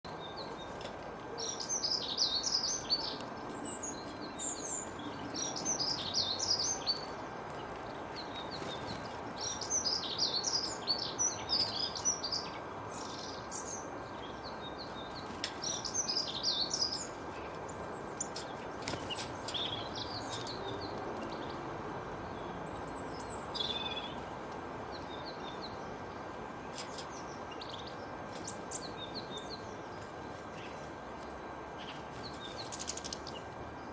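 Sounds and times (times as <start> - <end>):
songbirds chirping: 0.0 - 33.9
steady background hiss: 0.1 - 33.9.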